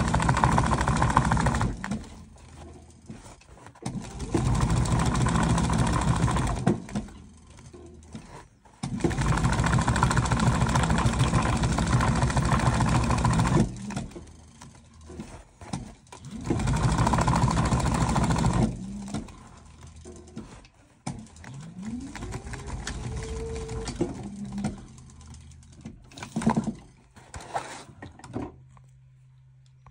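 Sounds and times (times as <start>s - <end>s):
industrial sewing machine stitching: 0.0s - 26.9s.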